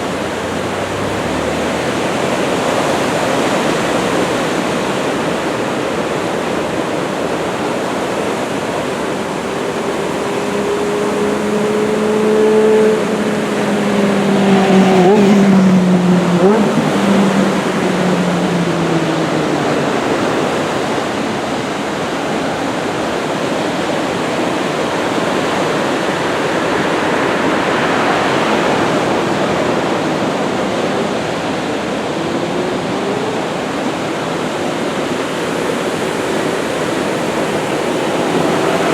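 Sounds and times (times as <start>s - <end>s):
motor vehicle passing: 0.0s - 4.4s, 7.4s - 21.9s, 23.5s - 38.9s
ocean surf breaking: 0.0s - 38.9s.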